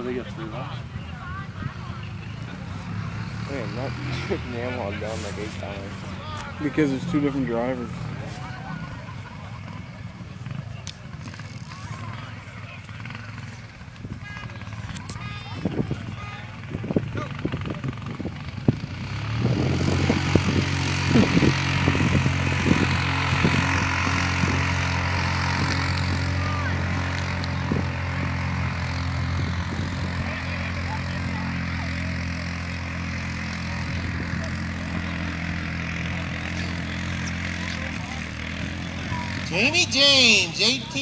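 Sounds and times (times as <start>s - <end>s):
quad bike engine revving: 0.0s - 41.0s.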